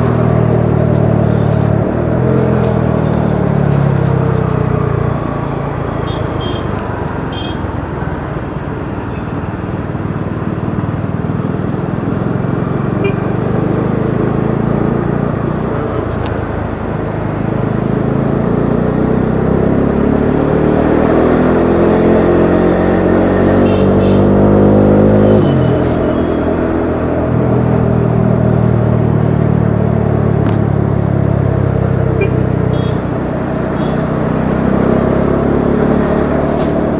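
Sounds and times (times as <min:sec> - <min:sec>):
motorcycle engine accelerating: 0:00.0 - 0:08.0, 0:09.7 - 0:36.9.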